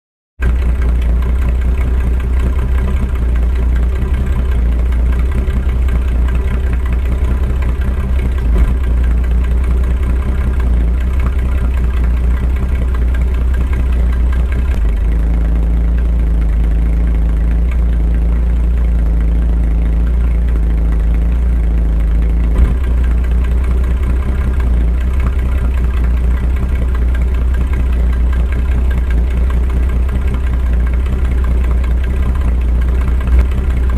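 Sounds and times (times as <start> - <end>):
car engine idling: 0.4 - 33.9.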